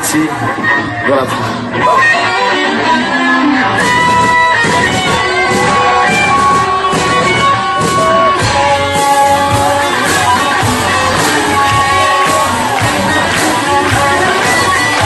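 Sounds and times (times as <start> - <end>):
bass: 0.0 - 15.0
drums: 0.0 - 15.0
electric guitar lead: 0.0 - 15.0.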